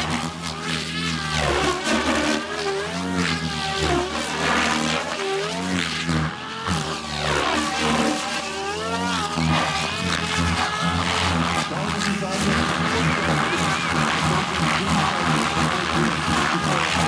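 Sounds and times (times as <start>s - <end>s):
rc helicopter rotor and motor whine: 0.0s - 17.0s.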